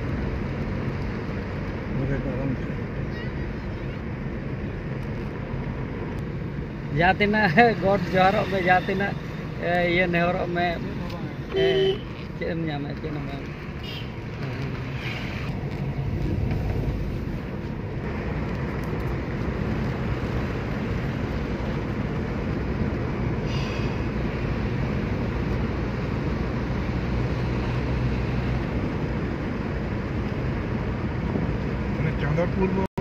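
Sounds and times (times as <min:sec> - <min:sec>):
car cabin road and engine noise: 0:00.0 - 0:33.0.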